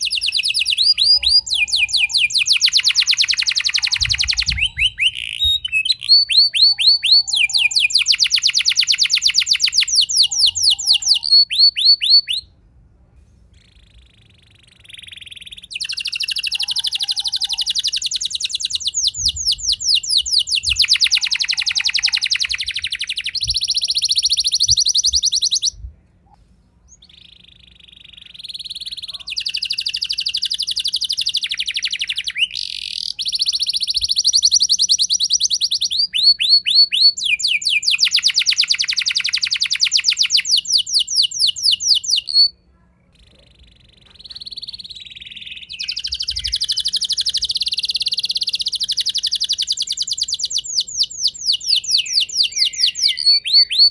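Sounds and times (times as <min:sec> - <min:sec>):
canary singing trills: 0:00.0 - 0:12.5, 0:13.6 - 0:25.8, 0:26.9 - 0:53.9.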